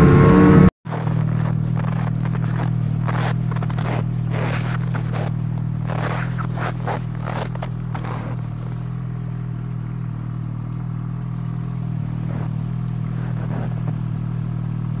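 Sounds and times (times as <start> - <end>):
snowmobile engine idling: 0.0 - 15.0
scraping and crunching in snow: 0.9 - 14.7.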